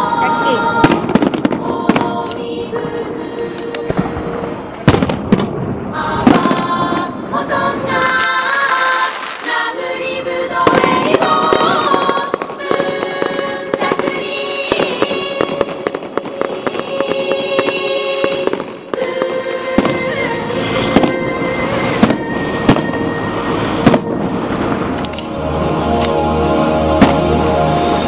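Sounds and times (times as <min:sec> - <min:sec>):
music: 0:00.0 - 0:04.9, 0:05.9 - 0:28.0
fireworks banging and crackling: 0:00.0 - 0:25.2, 0:27.0 - 0:28.0.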